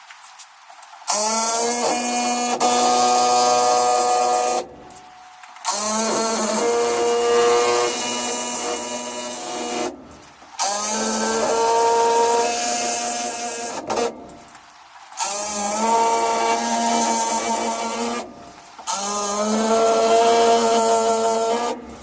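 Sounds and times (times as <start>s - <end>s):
power driver whining: 1.1s - 14.6s, 15.2s - 22.0s.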